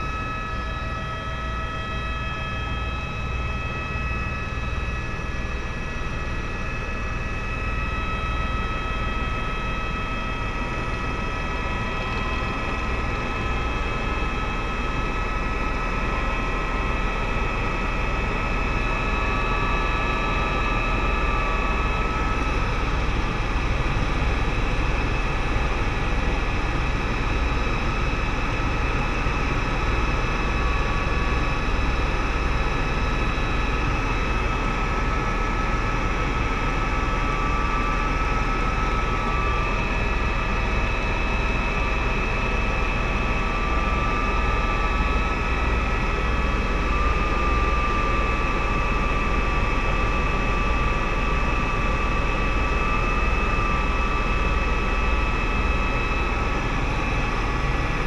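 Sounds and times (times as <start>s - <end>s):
helicopter engine and rotor noise: 0.0s - 58.0s.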